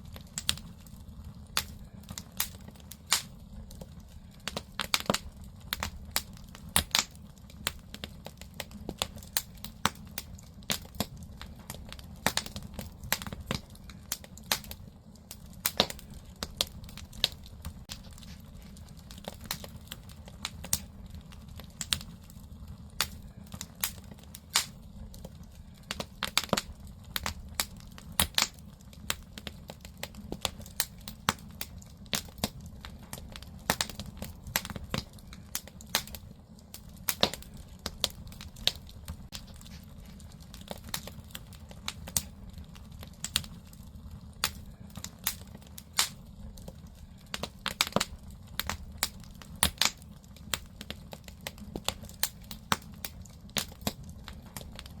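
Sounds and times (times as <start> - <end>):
firewood crackling and popping: 0.0 - 55.0
low rumble of fire: 0.0 - 55.0.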